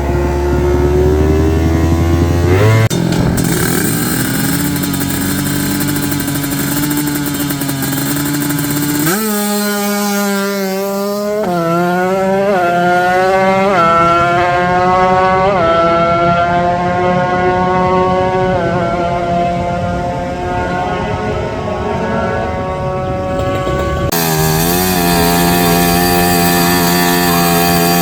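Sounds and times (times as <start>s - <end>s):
racing motorcycle engine accelerating: 0.0s - 28.0s.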